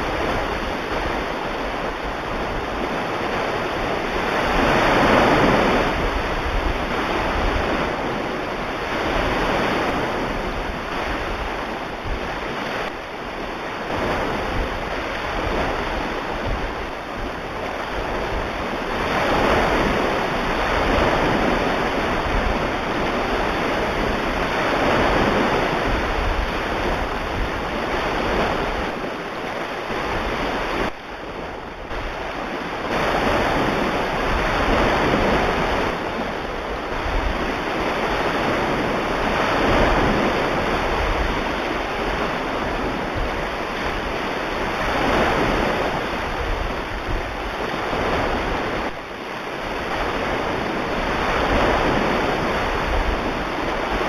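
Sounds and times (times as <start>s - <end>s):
ocean waves: 0.0s - 54.0s.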